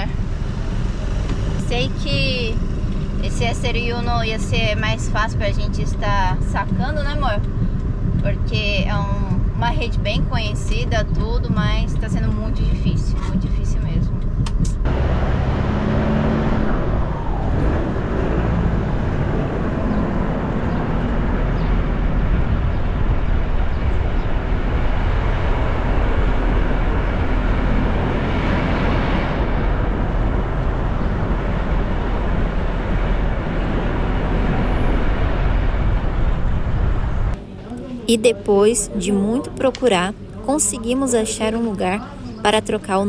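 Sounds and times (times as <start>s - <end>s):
vehicle engine and road rumble: 0.0s - 43.0s.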